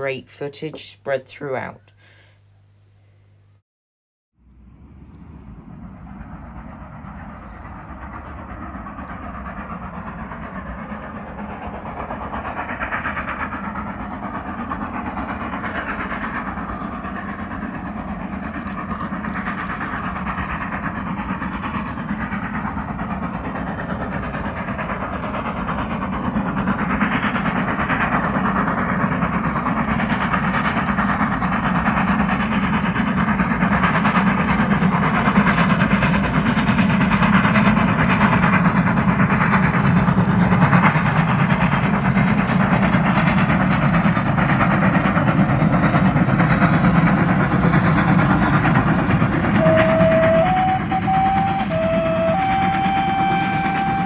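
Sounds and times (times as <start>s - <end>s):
train rumbling along rails: 4.4s - 54.0s
steam locomotive exhaust chuffing: 4.5s - 54.0s.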